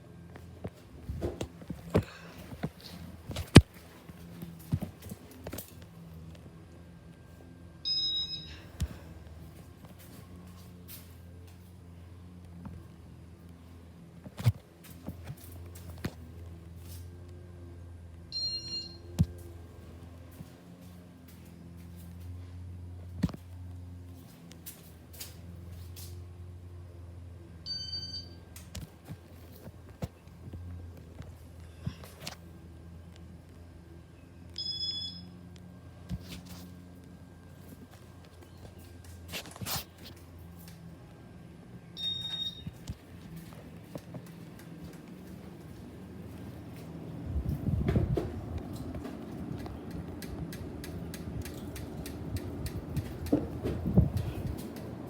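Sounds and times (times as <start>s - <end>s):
ceiling fan hum: 0.0s - 55.0s.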